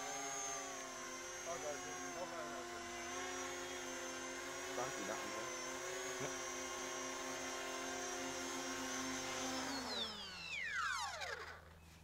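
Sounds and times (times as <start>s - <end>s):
electric motors and propellers whining: 0.0s - 12.0s.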